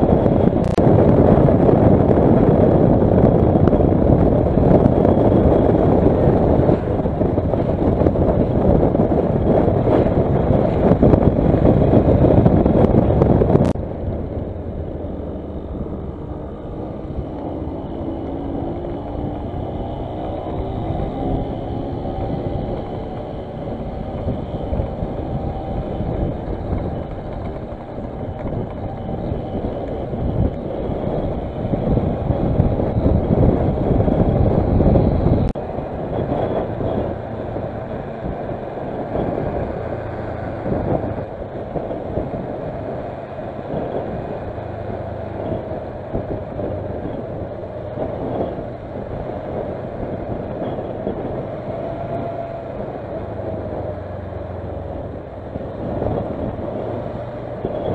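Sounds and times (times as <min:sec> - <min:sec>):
motorcycle engine running: 0:00.0 - 0:57.9
road noise: 0:00.0 - 0:57.9
wind rush: 0:00.0 - 0:57.9.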